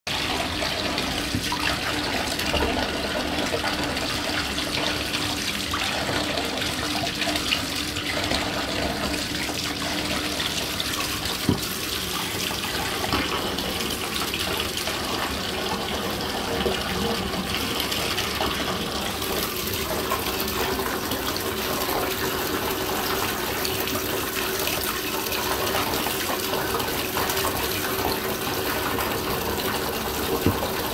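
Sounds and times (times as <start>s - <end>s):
tap water pouring into bathtub: 0.1s - 30.9s.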